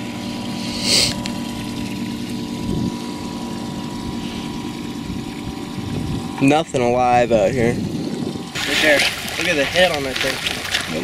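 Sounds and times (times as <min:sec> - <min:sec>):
electric pump humming: 0:00.0 - 0:11.0.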